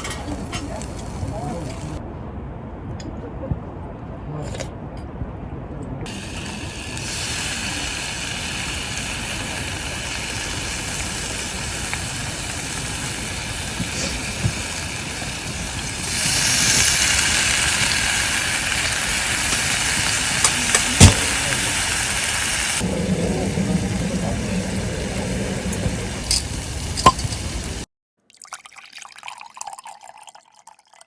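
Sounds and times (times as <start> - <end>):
strong wind blowing: 0.0 - 27.8.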